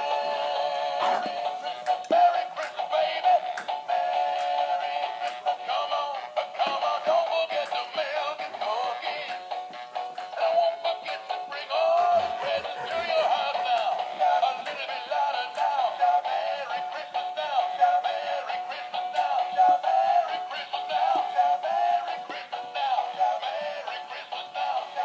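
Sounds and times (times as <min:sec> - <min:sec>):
toy synthetic voice singing over music: 0:00.0 - 0:25.0.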